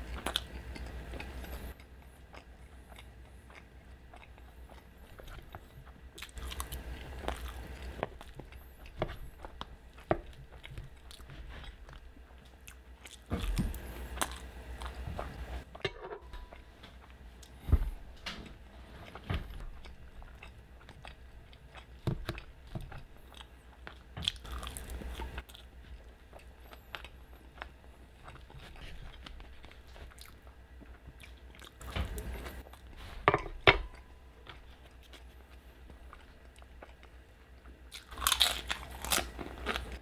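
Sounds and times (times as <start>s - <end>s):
close-up chewing: 0.0s - 15.8s, 18.6s - 33.2s, 33.8s - 40.0s.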